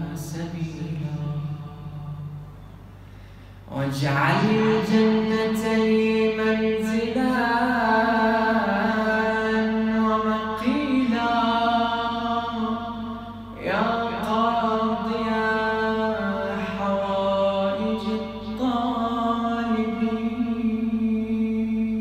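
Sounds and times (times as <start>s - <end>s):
man chanting: 0.0s - 2.6s, 3.7s - 22.0s.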